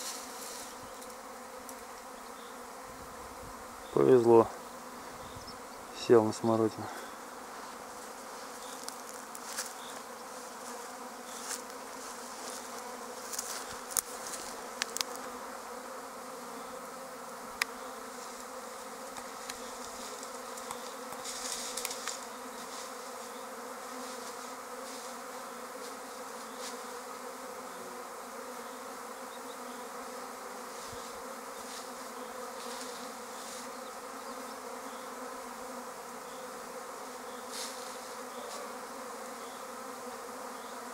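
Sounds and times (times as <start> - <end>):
bee swarm buzzing: 0.0 - 40.9.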